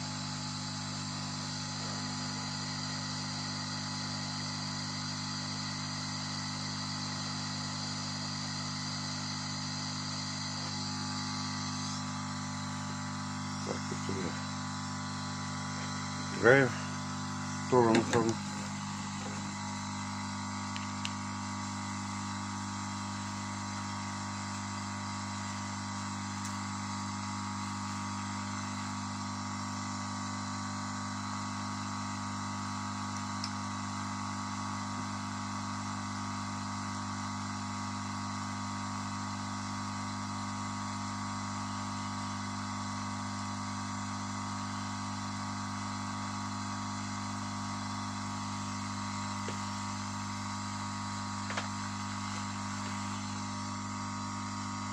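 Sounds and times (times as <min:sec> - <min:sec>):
soldering station blower hum: 0:00.0 - 0:54.9.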